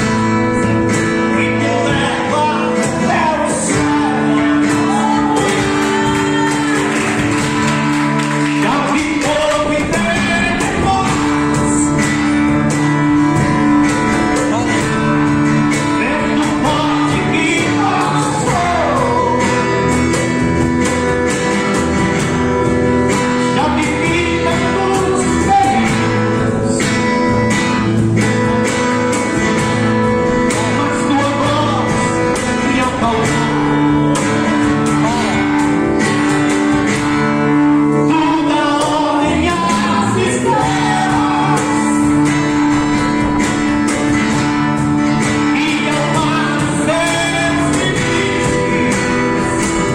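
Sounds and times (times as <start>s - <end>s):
person singing: 0.0s - 7.7s, 8.4s - 12.5s, 13.6s - 20.3s, 23.2s - 27.4s, 30.2s - 36.9s, 37.9s - 44.0s, 45.2s - 49.9s
guitar: 0.0s - 49.9s
worship band performing: 0.0s - 49.9s.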